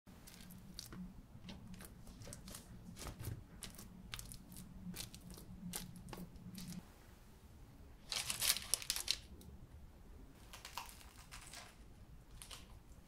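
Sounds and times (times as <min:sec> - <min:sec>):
low steady hum: 0:00.1 - 0:13.0.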